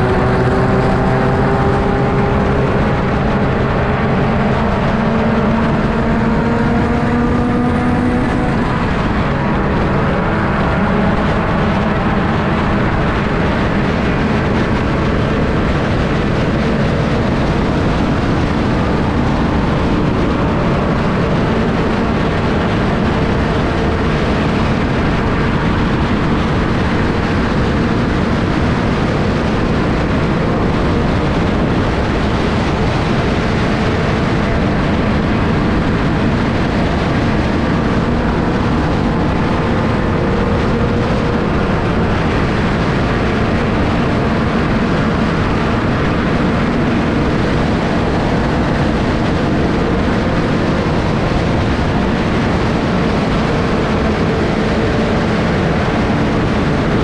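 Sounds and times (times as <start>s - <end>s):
race car engine: 0.0s - 57.0s
wind and road noise: 0.0s - 57.0s.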